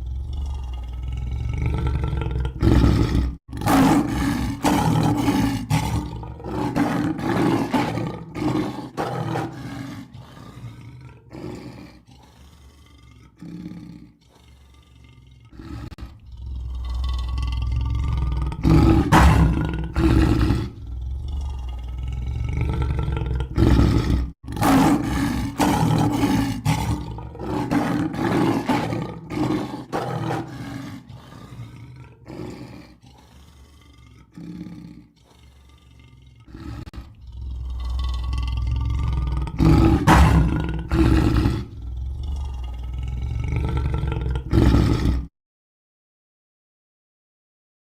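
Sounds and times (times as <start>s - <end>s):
lion roaring and growling: 0.0s - 45.3s.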